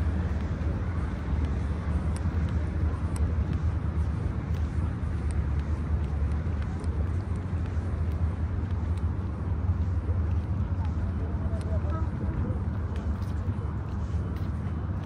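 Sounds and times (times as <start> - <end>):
distant road traffic rumble: 0.0 - 15.0
faint light ticks: 0.3 - 15.0.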